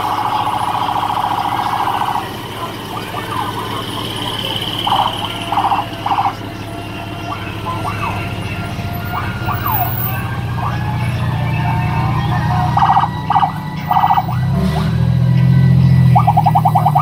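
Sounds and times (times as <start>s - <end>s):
diesel engine droning: 0.0s - 17.0s
sirens wailing: 0.0s - 17.0s
truck horn blasts: 0.0s - 17.0s.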